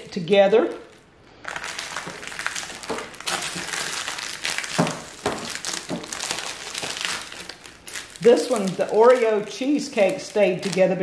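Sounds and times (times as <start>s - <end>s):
plastic sleeves crinkling: 0.0s - 11.0s.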